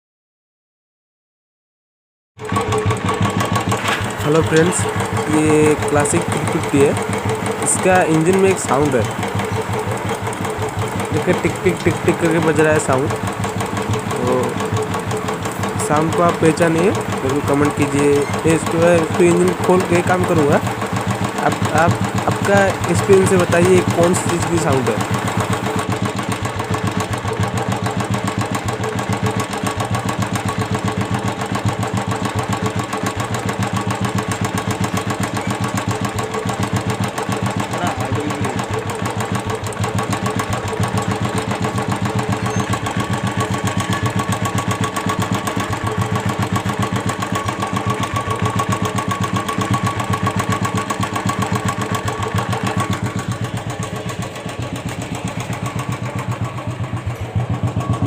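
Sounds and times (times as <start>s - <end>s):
engine ticking noise: 2.4s - 58.0s
motorcycle engine running: 2.4s - 58.0s.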